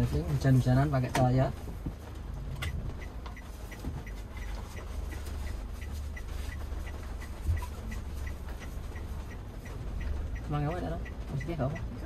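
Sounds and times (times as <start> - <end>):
engine and road hum: 0.0 - 12.0
turn signal ticking: 0.0 - 12.0.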